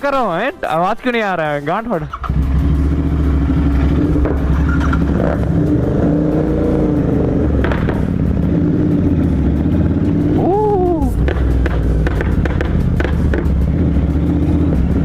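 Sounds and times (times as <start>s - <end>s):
motorcycle engine running: 2.1s - 15.0s.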